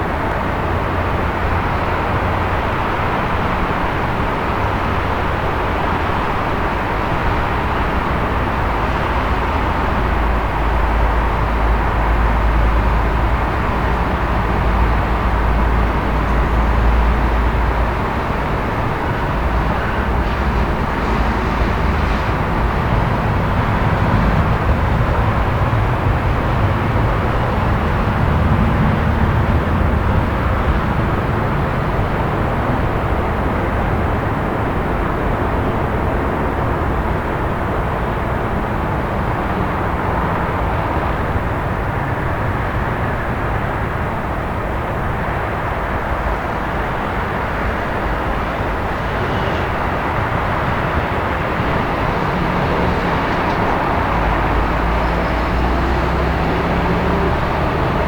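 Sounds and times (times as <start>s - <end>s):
distant city traffic rumble: 0.0s - 58.0s
low engine hum: 0.0s - 58.0s.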